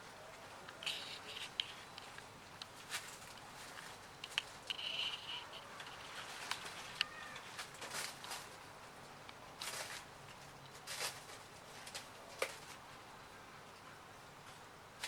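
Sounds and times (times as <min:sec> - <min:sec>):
kittens tapping and rustling: 0:00.0 - 0:13.1.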